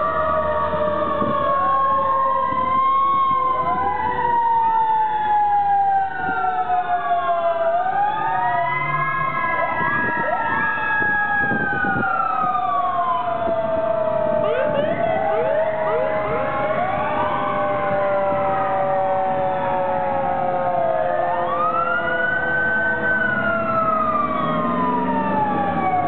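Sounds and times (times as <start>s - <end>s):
emergency vehicle sirens wailing: 0.0s - 26.0s
siren whoops: 0.0s - 26.0s.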